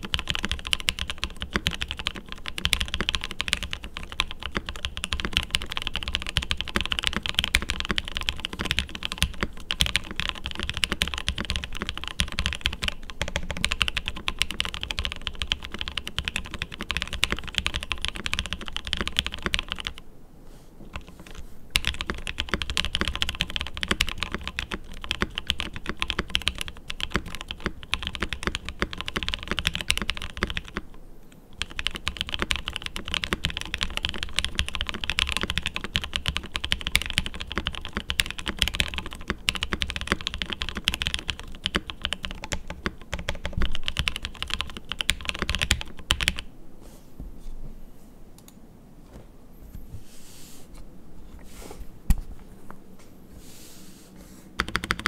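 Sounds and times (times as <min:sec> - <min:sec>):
mechanical keyboard typing: 0:00.0 - 0:20.0, 0:20.9 - 0:31.0, 0:31.6 - 0:46.5, 0:54.6 - 0:55.0.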